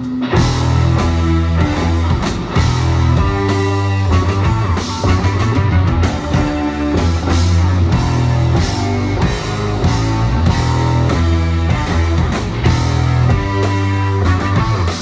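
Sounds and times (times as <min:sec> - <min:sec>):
drums: 0:00.0 - 0:15.0
electric guitar: 0:00.0 - 0:15.0
heavy bass line: 0:00.4 - 0:15.0.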